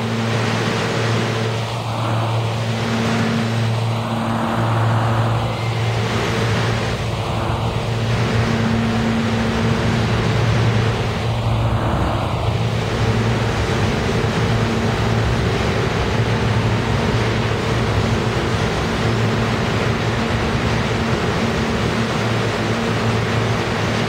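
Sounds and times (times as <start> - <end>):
steel wheels rumbling on rails: 0.0 - 24.0
train motor hum: 0.0 - 24.0.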